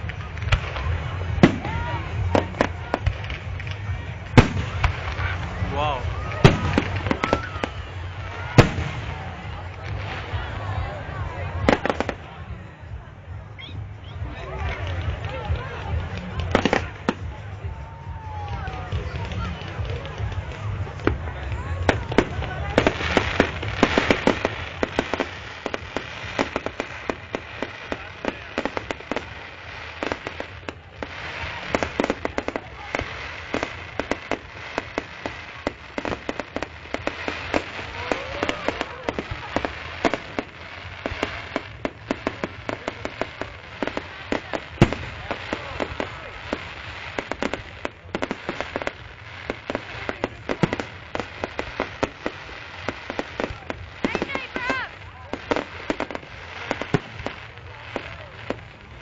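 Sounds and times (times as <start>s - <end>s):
fireworks popping and crackling: 0.0s - 59.0s.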